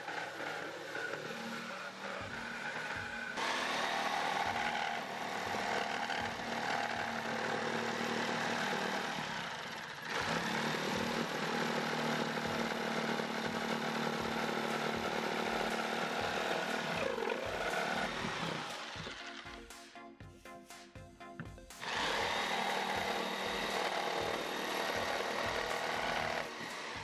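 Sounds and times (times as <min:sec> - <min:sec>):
jigsaw cutting wood: 0:00.0 - 0:20.0, 0:21.7 - 0:27.0.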